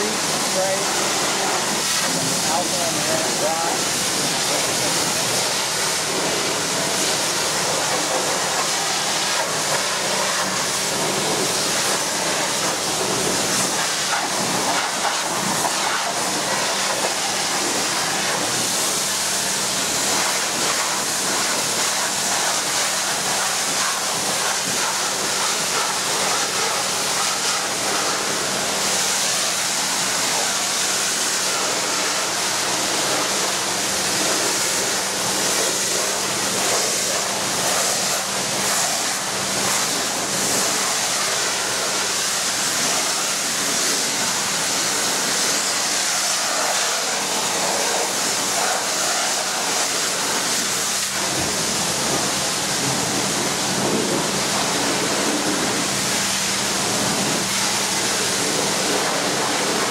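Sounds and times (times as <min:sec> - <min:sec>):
pressure washer spray hissing: 0:00.0 - 0:59.9.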